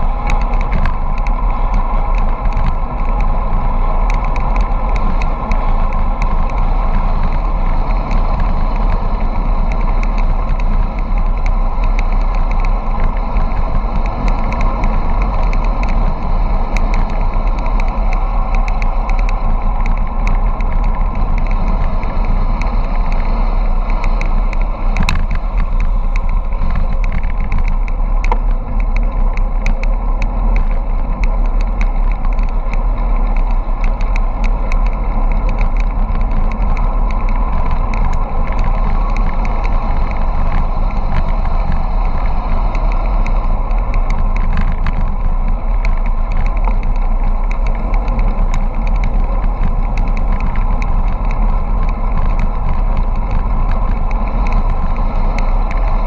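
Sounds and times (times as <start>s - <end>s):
small clicks and rattles: 0.0s - 56.0s
tyres rumbling on asphalt: 0.0s - 56.0s
wind rushing over microphone: 0.0s - 56.0s.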